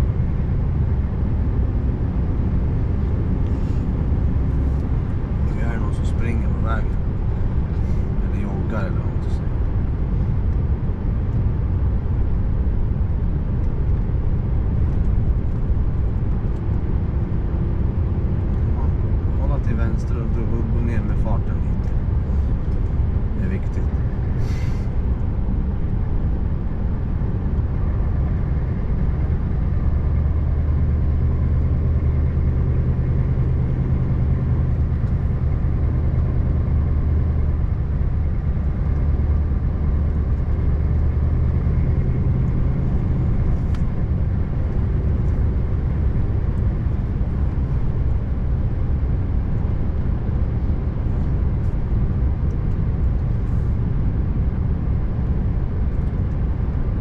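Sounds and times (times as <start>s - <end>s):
road noise: 0.0s - 57.0s
truck engine droning: 0.0s - 57.0s.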